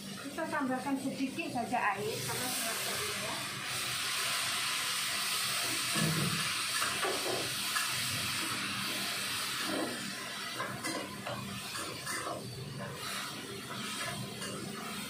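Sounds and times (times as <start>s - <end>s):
wok hissing and sizzling: 0.0s - 15.0s.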